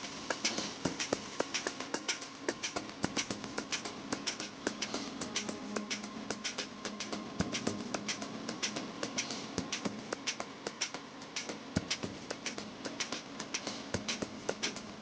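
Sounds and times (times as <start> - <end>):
faint steady hum: 0.0 - 15.0
rapid sharp clicks and taps: 0.0 - 15.0.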